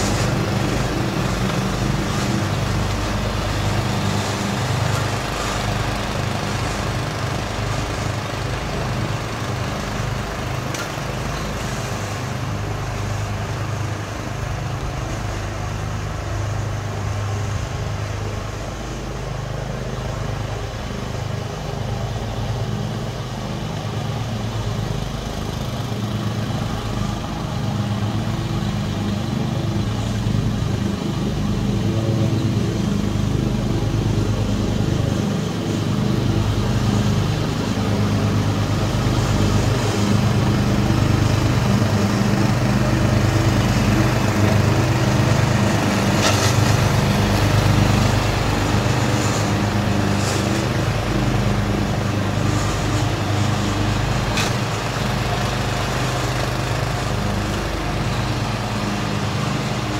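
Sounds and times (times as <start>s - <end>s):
lawn tractor engines mowing: 0.0s - 59.9s.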